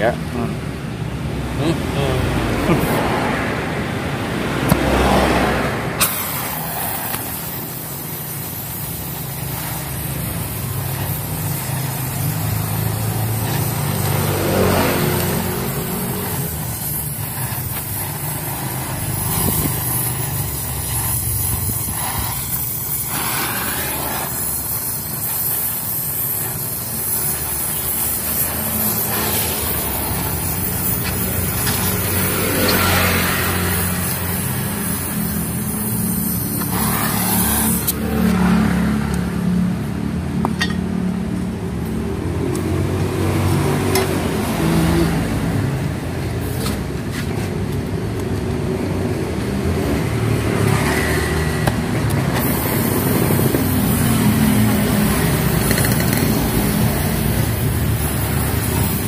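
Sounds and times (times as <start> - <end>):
welding torch hissing: 1.2 - 3.3, 4.0 - 40.5, 41.1 - 59.0.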